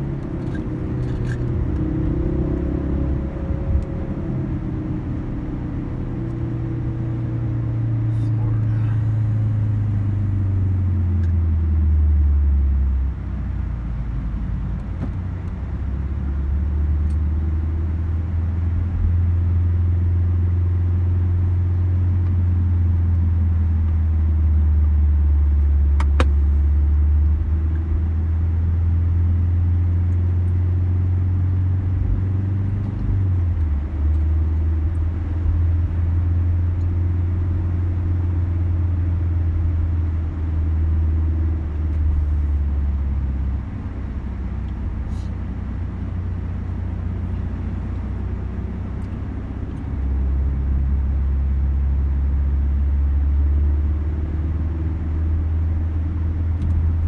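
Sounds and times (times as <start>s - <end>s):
car engine drone in cabin: 0.0s - 57.0s.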